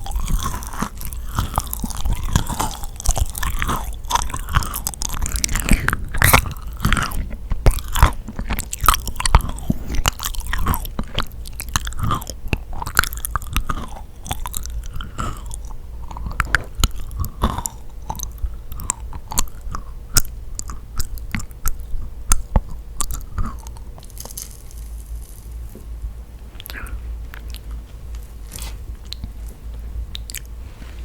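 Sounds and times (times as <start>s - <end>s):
sticky chewing mouth sounds: 0.0s - 25.8s, 26.5s - 30.6s.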